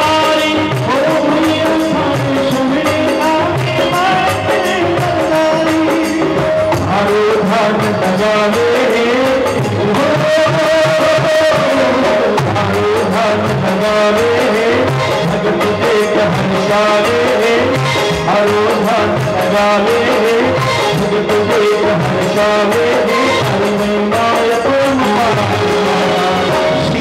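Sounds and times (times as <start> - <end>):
man singing into a microphone: 0.0 - 27.0
steady drum beat: 0.0 - 27.0.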